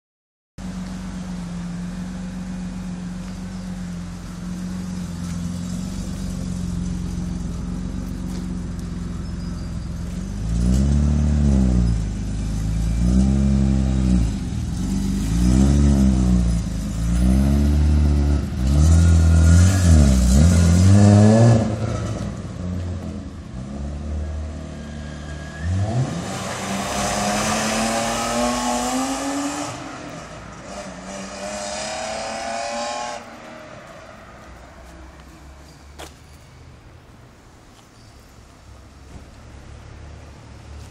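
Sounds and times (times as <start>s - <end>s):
car engine idling and revving: 0.6s - 40.9s
engine pulling away: 0.7s - 35.3s.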